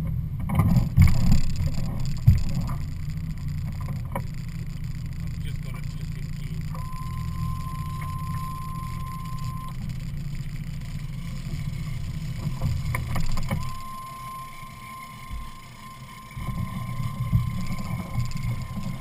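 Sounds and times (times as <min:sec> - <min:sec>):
outboard engine idling: 0:00.0 - 0:19.0
steady high beep: 0:01.4 - 0:19.0.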